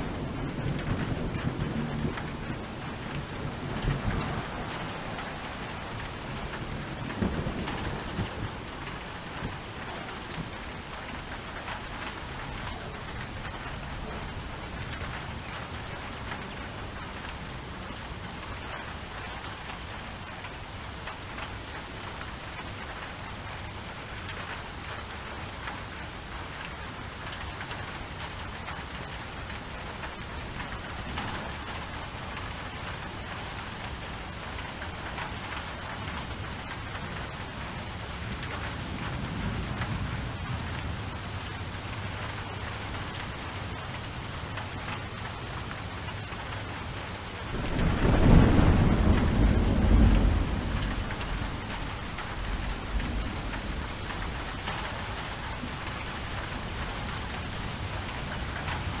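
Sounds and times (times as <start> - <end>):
rain hissing: 0.0 - 19.1, 30.3 - 59.0
raindrop ticks: 0.1 - 59.0.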